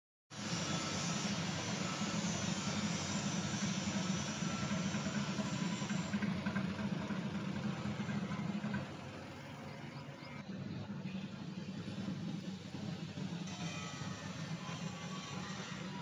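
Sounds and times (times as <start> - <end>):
machinery engine idling: 0.4 - 16.0.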